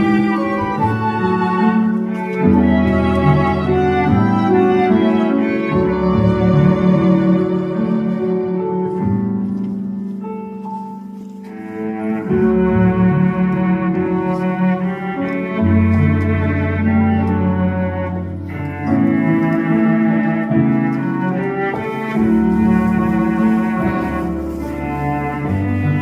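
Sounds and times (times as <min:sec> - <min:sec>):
violins and cellos: 0:00.0 - 0:09.9, 0:11.2 - 0:26.0.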